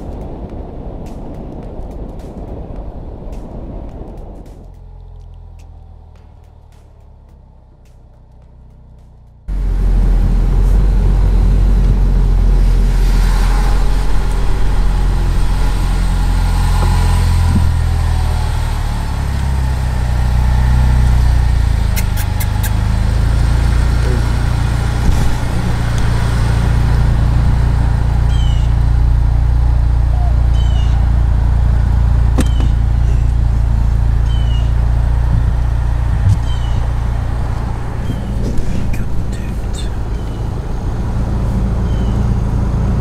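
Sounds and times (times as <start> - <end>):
car engine rumble: 0.0 - 43.0.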